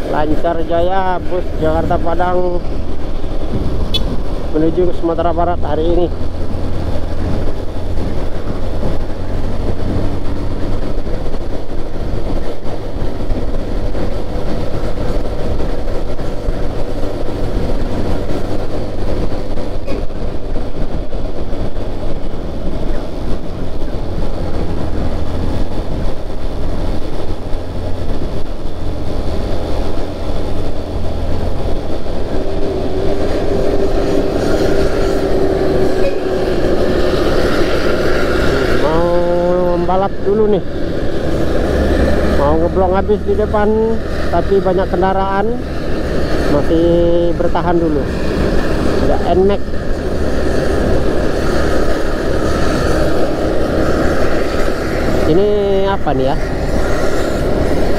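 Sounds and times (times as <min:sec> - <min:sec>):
constant hum: 0:00.0 - 0:57.9
vehicle engine and road rumble: 0:00.0 - 0:57.9.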